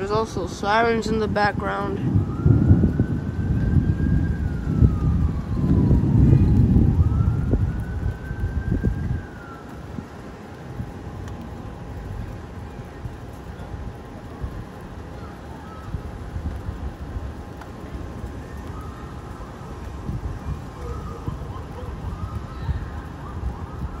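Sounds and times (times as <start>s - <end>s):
emergency vehicle siren wailing: 0.0s - 24.0s.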